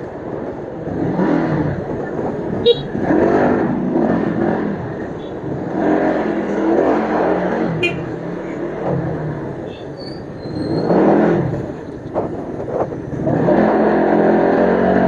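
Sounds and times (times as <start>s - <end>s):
scooter engine revving: 0.8s - 15.0s.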